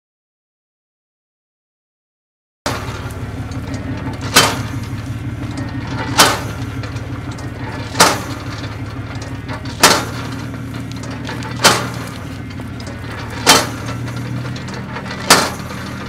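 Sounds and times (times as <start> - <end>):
truck engine idling: 2.7 - 16.0.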